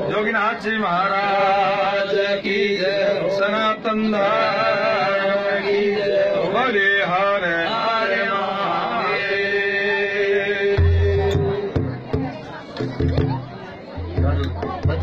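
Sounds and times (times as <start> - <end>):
men chanting: 0.0 - 12.3.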